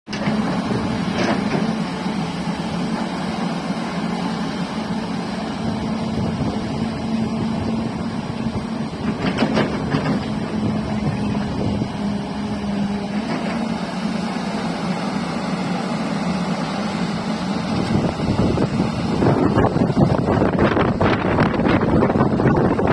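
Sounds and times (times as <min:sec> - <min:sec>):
excavator diesel engine running: 0:00.1 - 0:22.9.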